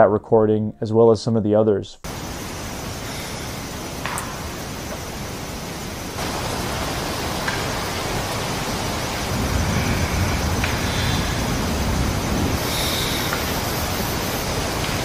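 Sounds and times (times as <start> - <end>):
steady hiss: 2.0 - 15.0.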